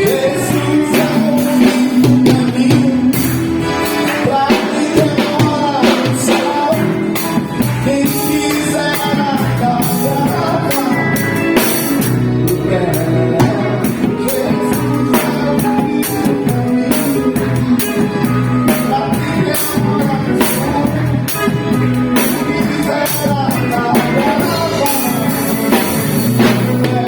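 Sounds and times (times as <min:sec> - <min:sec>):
bass guitar: 0:00.0 - 0:27.0
drum kit beat: 0:00.0 - 0:27.0
electric guitar: 0:00.0 - 0:27.0
keyboards: 0:00.0 - 0:27.0
person singing: 0:00.0 - 0:27.0.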